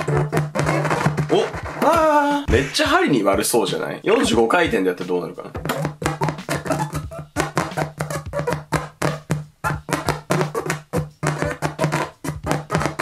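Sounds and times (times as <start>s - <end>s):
music from record: 0.0s - 13.0s.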